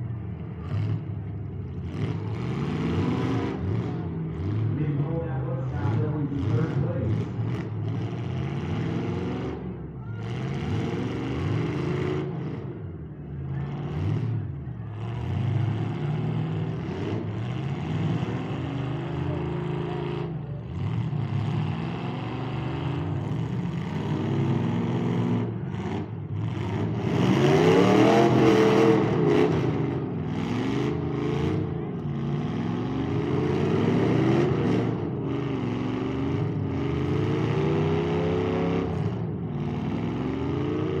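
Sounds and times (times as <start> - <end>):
car engines revving hard: 0.0 - 41.0.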